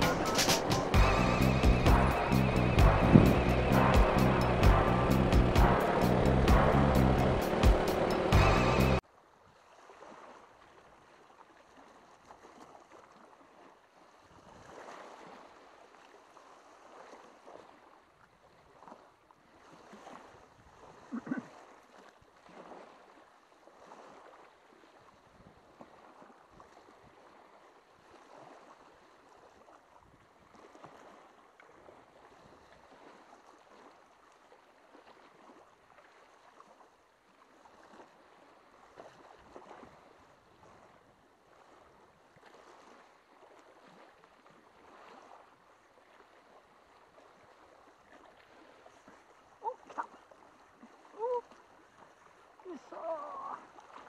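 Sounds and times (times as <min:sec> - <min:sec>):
sea water lapping against rocks: 0:09.7 - 0:54.0.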